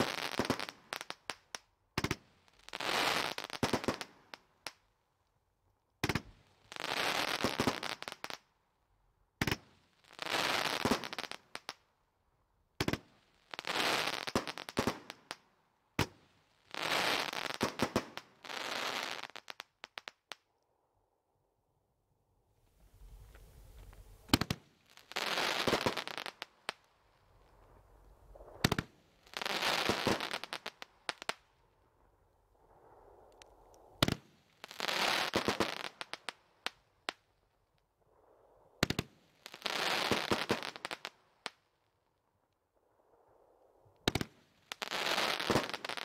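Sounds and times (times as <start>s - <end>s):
firework crackling and pops: 0.0s - 4.9s, 6.0s - 8.5s, 9.4s - 11.9s, 12.8s - 20.5s, 22.7s - 37.9s, 38.8s - 41.8s, 44.0s - 46.0s.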